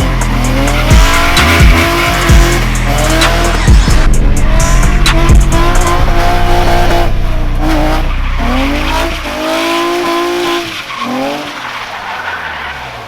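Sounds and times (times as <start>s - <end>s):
car engine revving hard: 0.0s - 11.6s.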